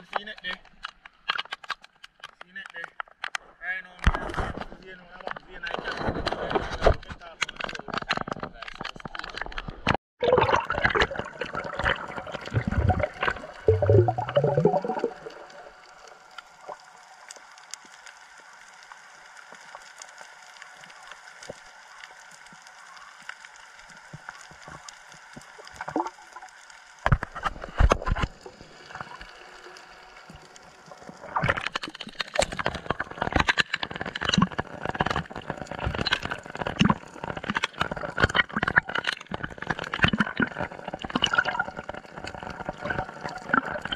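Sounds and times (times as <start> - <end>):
water splashing and gurgling: 6.1 - 43.9.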